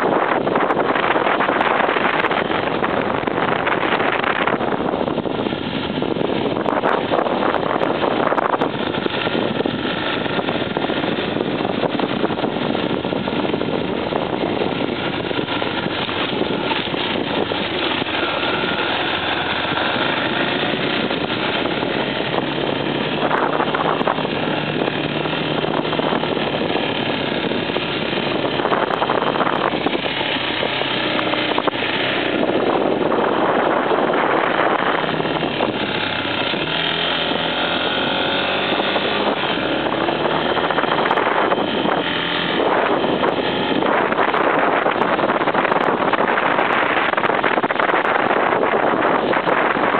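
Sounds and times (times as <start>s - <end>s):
off-road motorcycle engine: 0.0s - 49.9s
road noise: 0.0s - 49.9s
wind: 0.0s - 49.9s.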